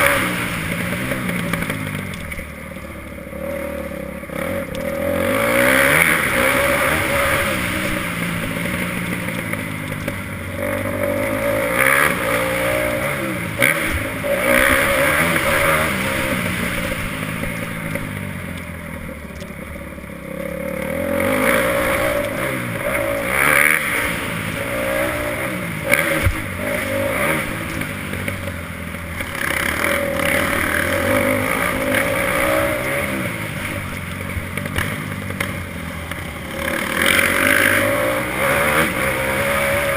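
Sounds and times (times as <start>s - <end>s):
motocross bike engine revving: 0.0s - 19.4s, 20.1s - 39.9s.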